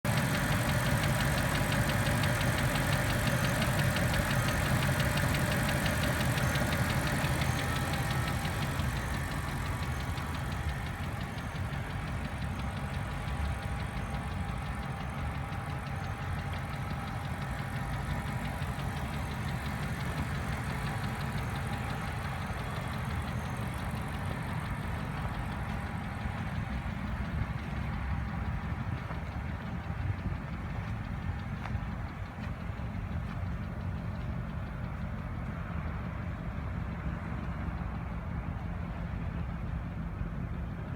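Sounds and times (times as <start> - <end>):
car engine idling with a knock: 0.1 - 40.9.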